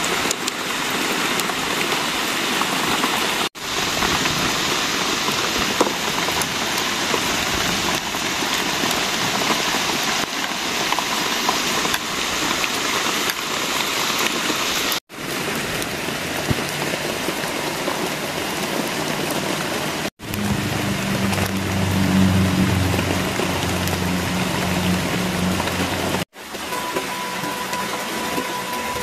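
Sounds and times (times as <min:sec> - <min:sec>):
steady rain on leaves: 0:00.0 - 0:29.0.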